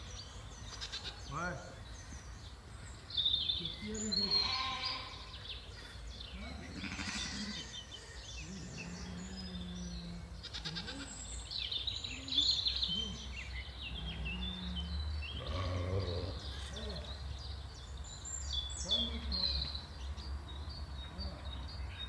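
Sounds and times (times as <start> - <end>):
low drawn-out bird calls: 0.0 - 19.9
small birds chirping: 0.0 - 22.0.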